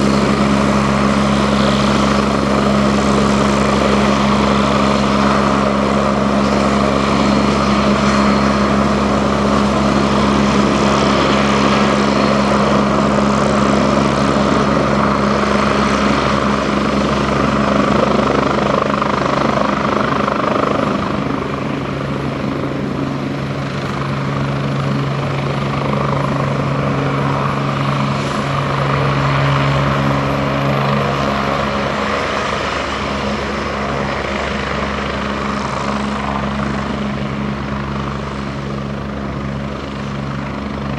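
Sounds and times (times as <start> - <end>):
helicopter rotor hum: 0.0 - 40.9
helicopter turbine whine: 0.0 - 40.9.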